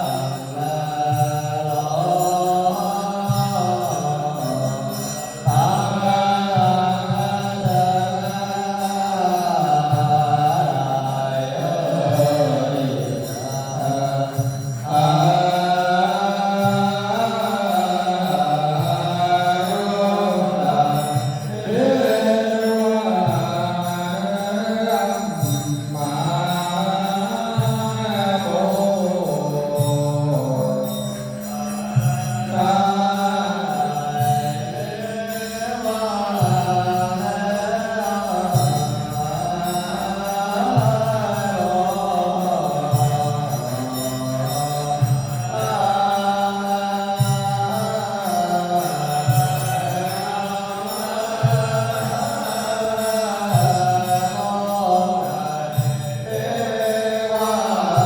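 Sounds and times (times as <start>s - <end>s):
chanting in long held notes: 0.0s - 58.0s.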